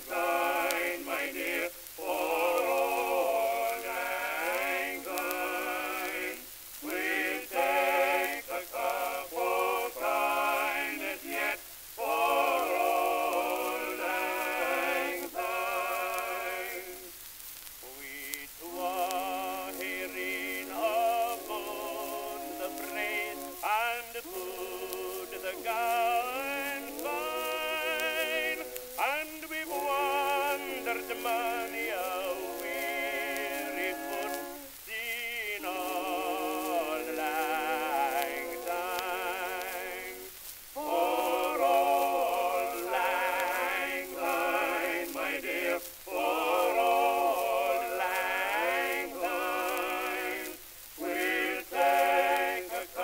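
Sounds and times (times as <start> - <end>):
person singing with vibrato: 0.0 - 53.0
record hiss and crackle: 0.0 - 53.0.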